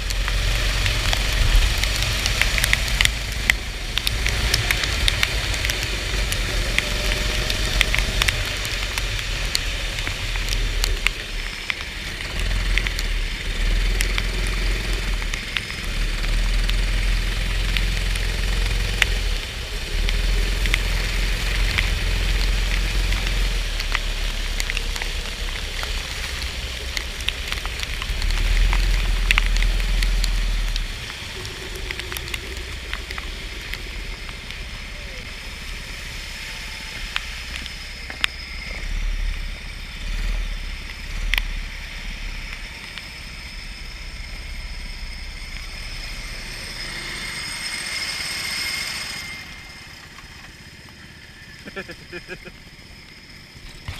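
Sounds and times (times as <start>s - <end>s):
go-kart engine rumble: 0.0s - 53.9s
rain and spray hissing: 0.0s - 53.9s.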